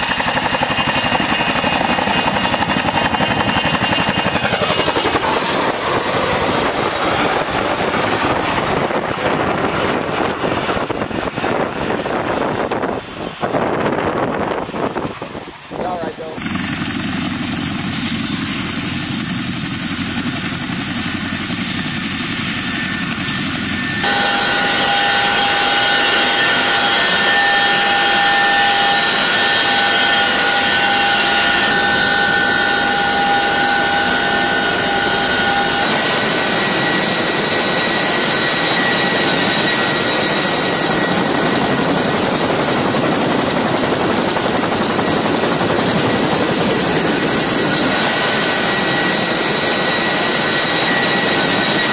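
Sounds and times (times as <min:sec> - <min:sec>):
helicopter engine whine: 0:00.0 - 0:51.9
helicopter rotor noise: 0:00.0 - 0:51.9.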